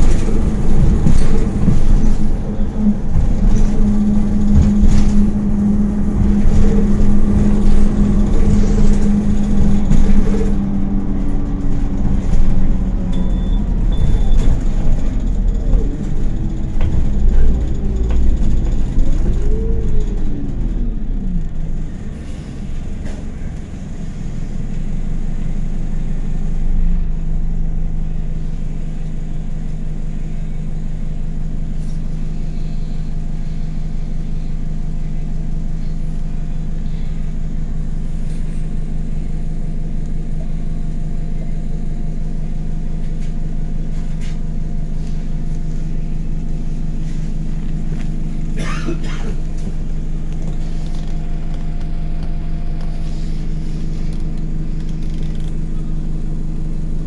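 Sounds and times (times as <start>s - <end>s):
bus engine whining: 0.0s - 57.0s.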